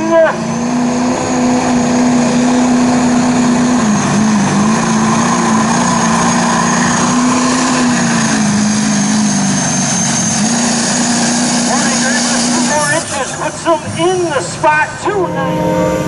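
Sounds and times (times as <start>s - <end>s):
turbocharger whistle: 0.0s - 13.5s
diesel engine at full throttle: 0.0s - 16.0s.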